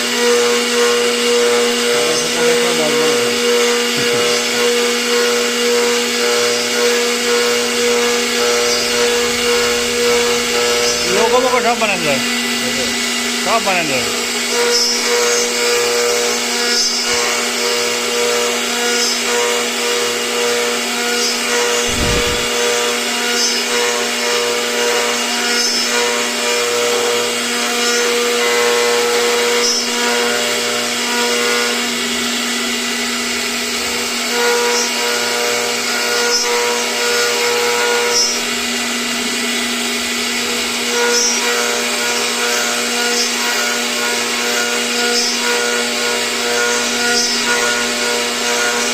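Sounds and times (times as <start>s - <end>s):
router bit cutting: 0.0s - 48.9s
router spindle motor whine: 0.0s - 48.9s.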